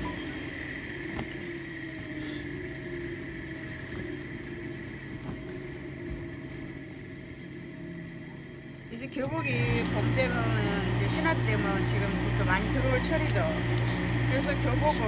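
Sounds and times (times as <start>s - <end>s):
faint high whine: 0.0s - 15.0s
pressing equipment humming: 0.0s - 15.0s.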